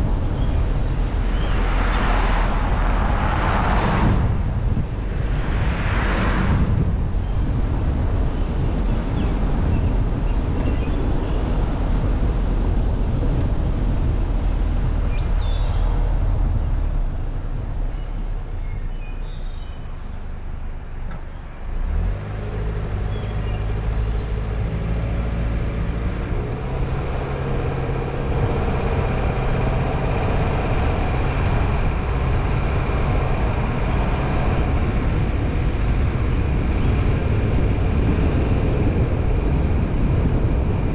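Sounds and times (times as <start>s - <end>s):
car engine: 0.0s - 40.9s
road and tyre noise: 0.0s - 40.9s.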